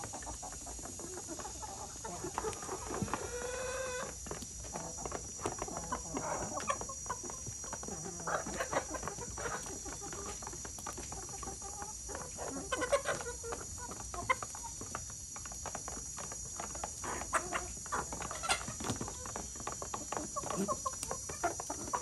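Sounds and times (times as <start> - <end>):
chickens clucking softly: 0.0 - 22.0
chickens pecking taps: 0.0 - 22.0.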